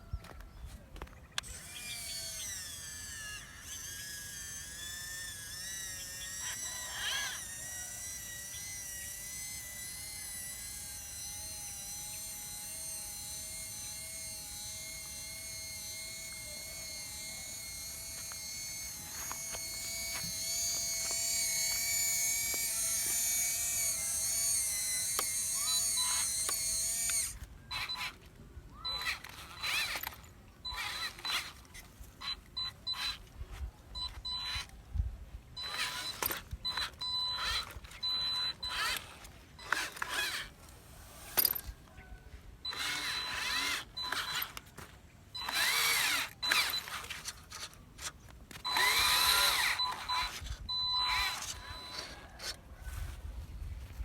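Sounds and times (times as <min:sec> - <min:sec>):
small electric motor whining: 0:00.0 - 0:54.0.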